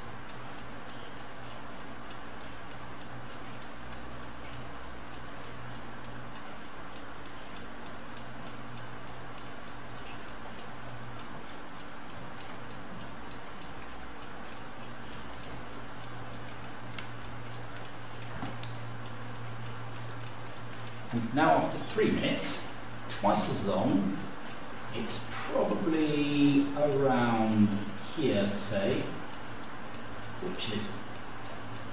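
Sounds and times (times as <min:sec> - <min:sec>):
low steady hum: 0:00.0 - 0:31.9
mechanical clock ticking rapidly: 0:00.0 - 0:31.9.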